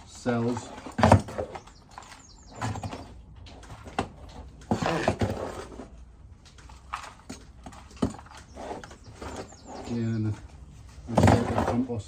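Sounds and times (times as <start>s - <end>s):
rustling and scraping of seed trays: 0.0s - 12.0s.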